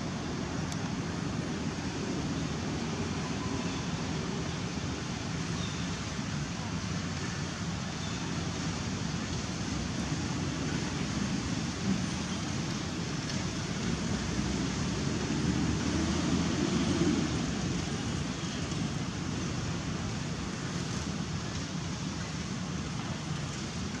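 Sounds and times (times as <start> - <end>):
rushing outdoor noise: 0.0 - 24.0.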